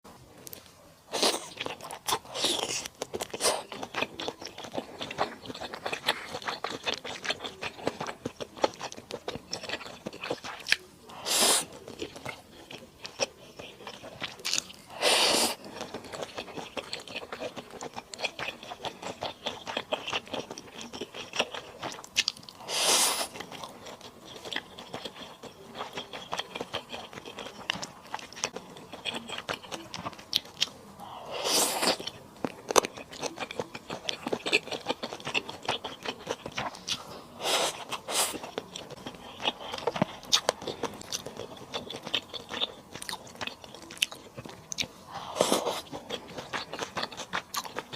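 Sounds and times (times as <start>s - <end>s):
person chewing and crunching: 0.4s - 47.9s.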